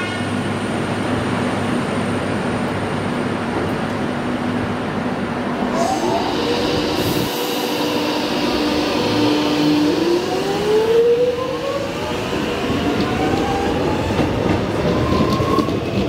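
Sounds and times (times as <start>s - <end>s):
train wheels rumbling: 0.3s - 16.0s.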